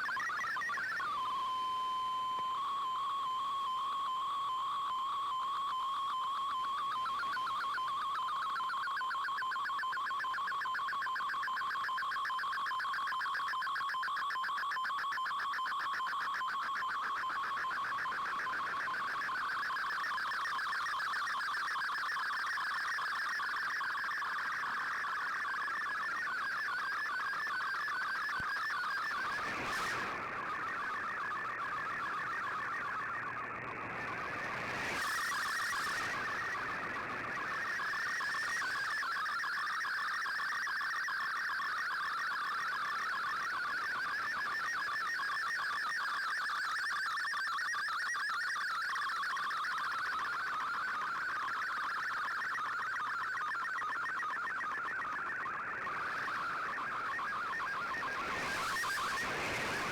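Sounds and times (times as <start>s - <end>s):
warbling data tones: 6.8s - 59.9s.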